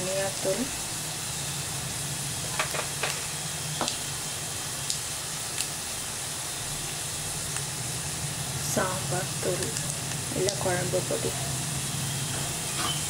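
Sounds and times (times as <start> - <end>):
garlic sizzling in oil: 0.0 - 13.0.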